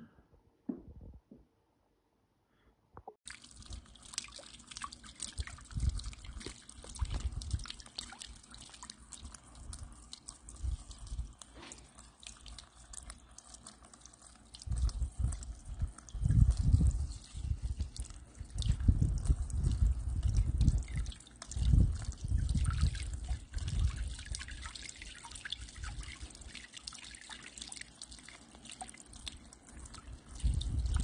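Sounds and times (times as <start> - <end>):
fountain water trickling: 3.3 - 31.0.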